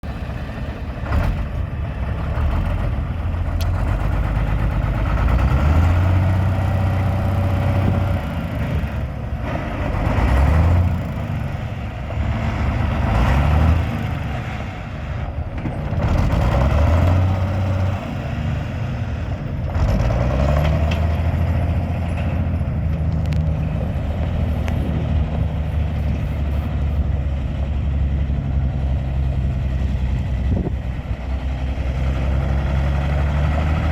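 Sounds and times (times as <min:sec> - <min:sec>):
diesel engine revving: 0:00.0 - 0:33.9
diesel truck engine idling: 0:00.0 - 0:33.9.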